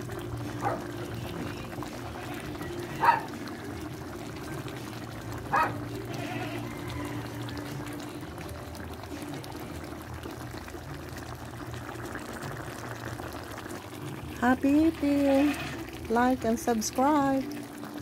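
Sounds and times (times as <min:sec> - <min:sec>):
curry bubbling in a pot: 0:00.0 - 0:18.0.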